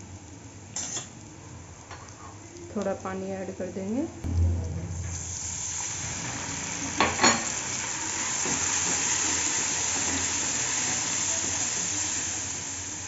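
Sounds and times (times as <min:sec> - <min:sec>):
masala sizzling in hot oil: 0:00.0 - 0:04.1, 0:05.1 - 0:13.0.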